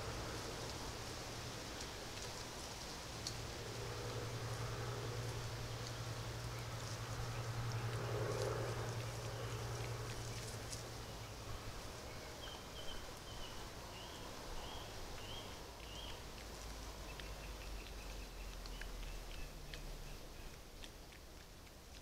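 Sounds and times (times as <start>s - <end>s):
hiss and low hum: 0.0s - 22.0s.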